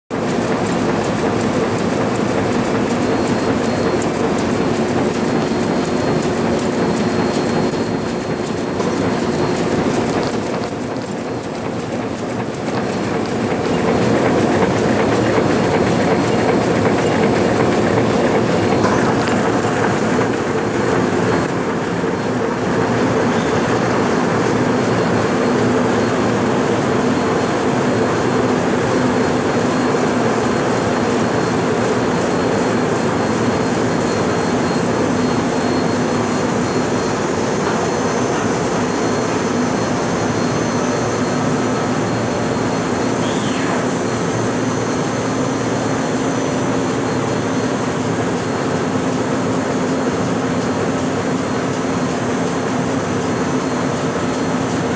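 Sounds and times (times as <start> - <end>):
printing press running: 0.1 - 54.9.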